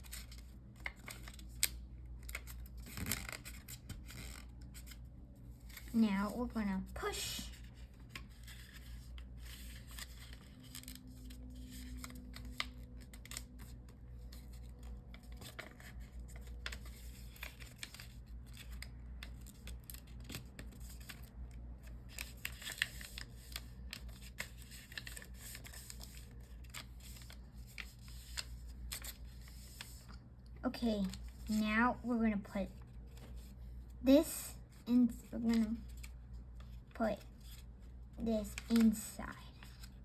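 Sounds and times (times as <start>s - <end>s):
paper folding crackles: 0.0s - 40.0s.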